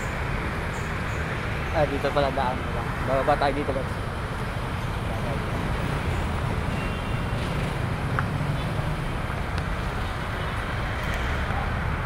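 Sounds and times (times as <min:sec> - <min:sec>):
heavy road traffic rumble: 0:00.0 - 0:12.0.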